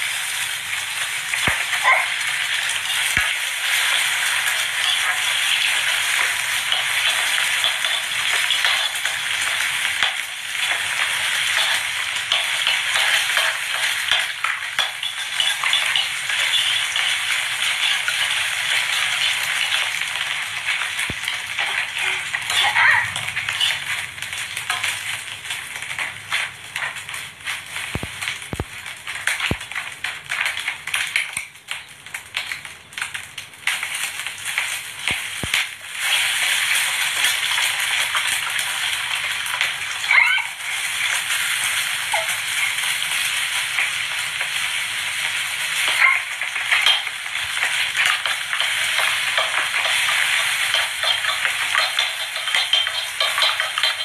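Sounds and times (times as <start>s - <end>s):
egg sizzling in hot oil: 0.0s - 54.0s.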